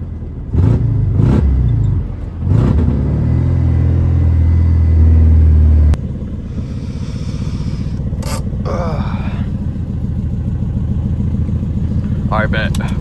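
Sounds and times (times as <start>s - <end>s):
car engine and loud exhaust: 0.0s - 13.0s.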